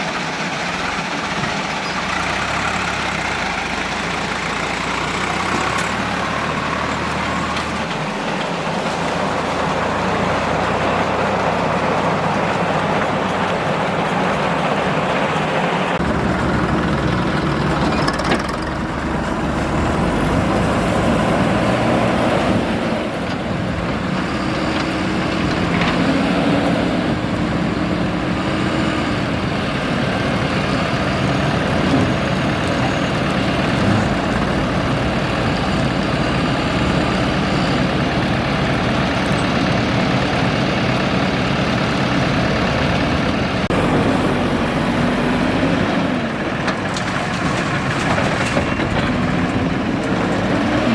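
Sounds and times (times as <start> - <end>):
heavy diesel machinery running: 0.0 - 50.9.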